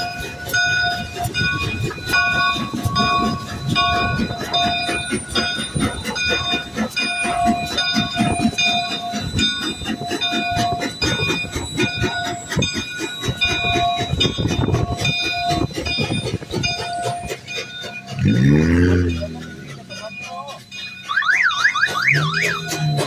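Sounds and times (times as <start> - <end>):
clank and rumble of wheels: 0.0 - 23.0
locomotive bell ringing: 0.0 - 23.0
steam locomotive rolling past: 0.0 - 23.0.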